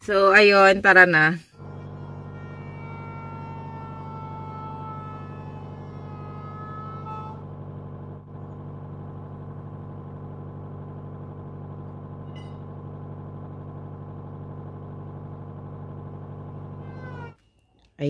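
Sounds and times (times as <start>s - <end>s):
car engine idling: 1.5s - 17.4s.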